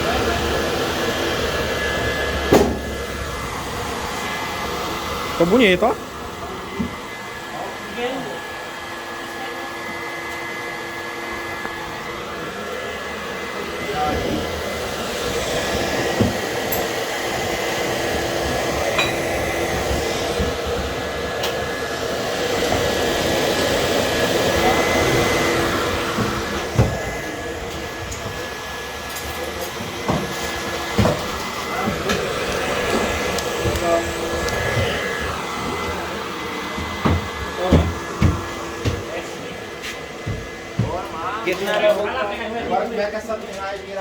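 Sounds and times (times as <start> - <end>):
electric fan whirring: 0.0 - 44.0.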